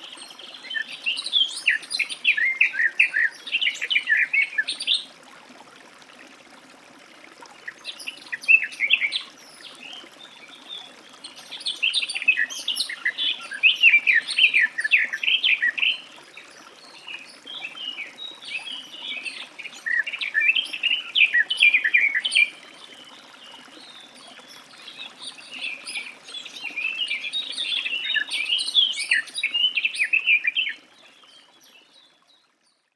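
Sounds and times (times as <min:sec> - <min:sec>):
bird warbling song: 0:00.0 - 0:05.1, 0:07.6 - 0:32.8.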